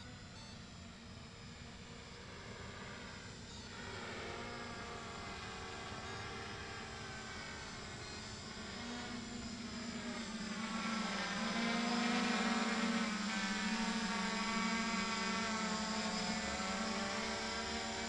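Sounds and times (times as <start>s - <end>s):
drone rotors whirring: 0.0s - 18.0s.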